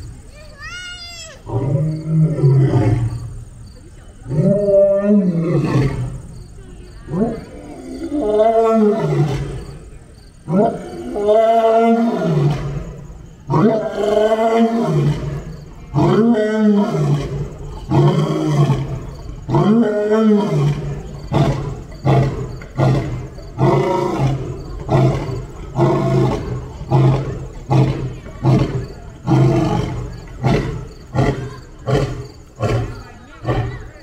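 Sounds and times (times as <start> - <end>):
lion roaring: 1.4 - 3.2, 4.3 - 6.2, 7.1 - 9.7, 10.4 - 33.9.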